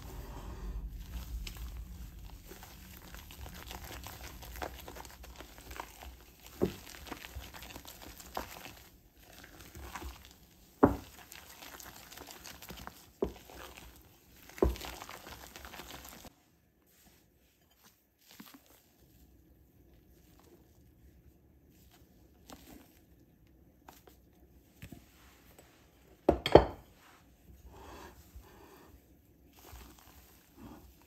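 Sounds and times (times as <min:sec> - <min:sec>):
spatula squelching and scraping batter: 0:00.0 - 0:31.0.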